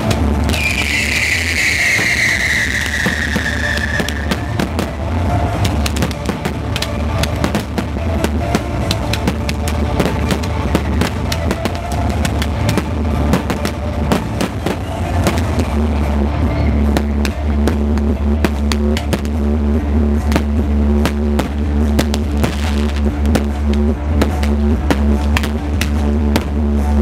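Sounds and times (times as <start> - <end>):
fireworks bangs and crackles: 0.0 - 27.0
loud music with heavy drum beat: 0.1 - 27.0.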